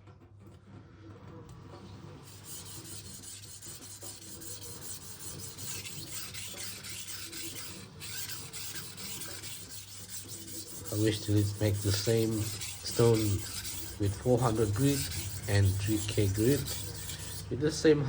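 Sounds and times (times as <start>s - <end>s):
knife scraping on whetstone: 2.2s - 17.5s.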